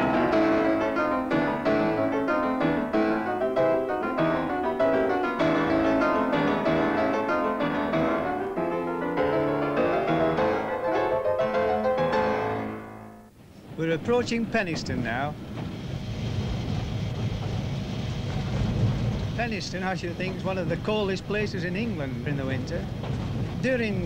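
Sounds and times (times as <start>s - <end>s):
piano music: 0.0s - 15.5s, 19.4s - 24.0s.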